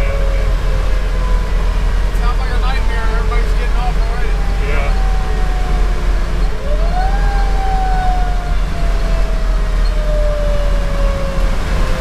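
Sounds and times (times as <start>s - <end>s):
fire engine diesel rumble: 0.0s - 12.0s
road noise: 0.0s - 12.0s.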